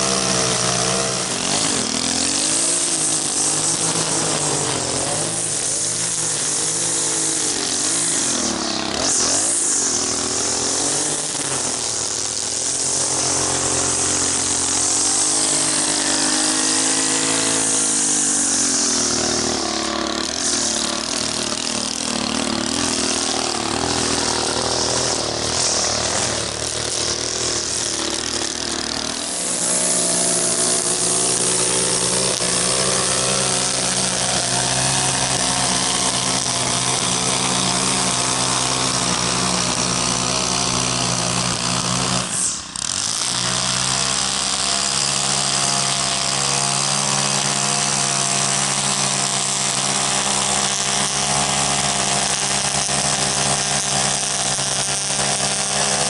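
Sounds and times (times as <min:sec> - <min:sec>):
string trimmer cutting grass: 0:00.0 - 0:56.0.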